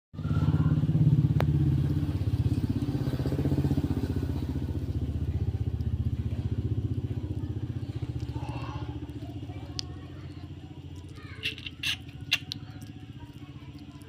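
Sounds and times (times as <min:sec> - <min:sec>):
engine idling: 0:00.2 - 0:14.0.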